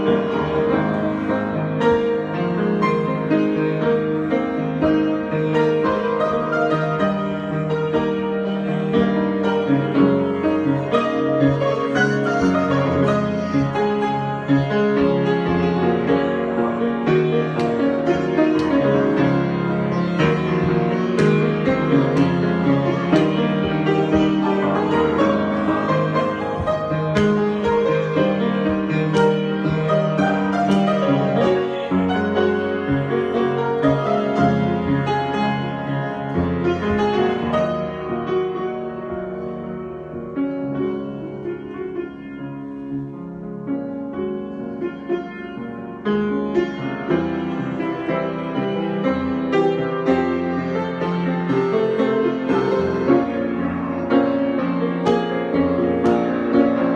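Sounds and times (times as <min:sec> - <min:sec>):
solo piano: 0:00.0 - 0:56.9.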